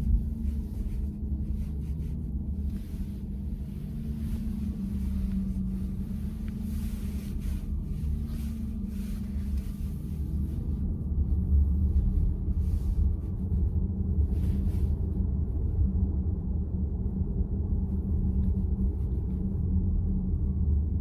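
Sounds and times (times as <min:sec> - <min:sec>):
road and tyre noise in car cabin: 0:00.0 - 0:21.0.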